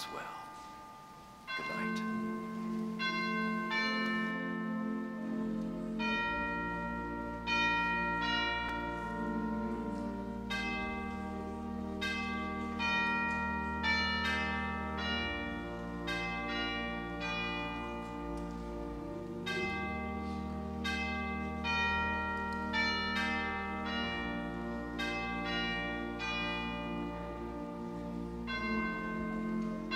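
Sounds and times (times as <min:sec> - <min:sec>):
ringing bell tones: 0:00.0 - 0:29.9.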